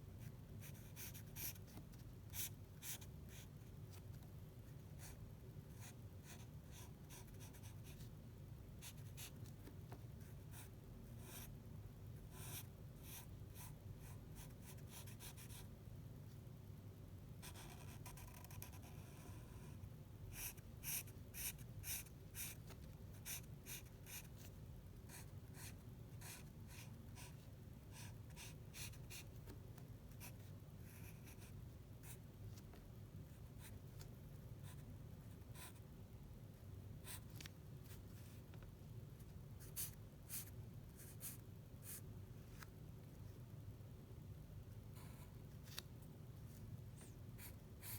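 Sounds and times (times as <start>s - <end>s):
faint low hum: 0.0s - 47.9s.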